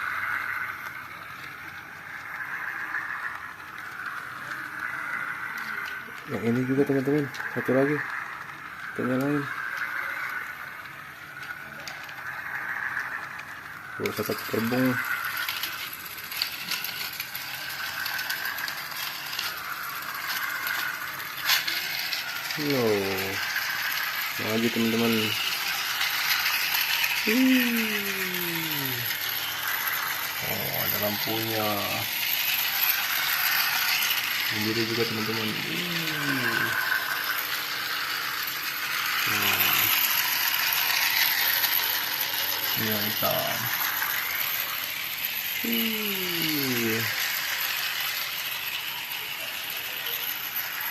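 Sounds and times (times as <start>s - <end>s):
toy train motor whirring: 0.0s - 50.9s
wheels clicking on track: 0.0s - 50.9s.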